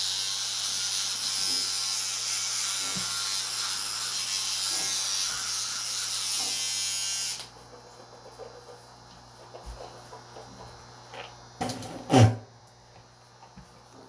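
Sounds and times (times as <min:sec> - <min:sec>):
electric toothbrush buzzing: 0:00.0 - 0:14.0.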